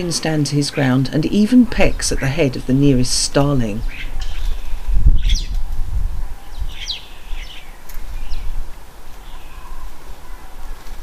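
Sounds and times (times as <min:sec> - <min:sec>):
starlings chirping: 0:00.0 - 0:11.0.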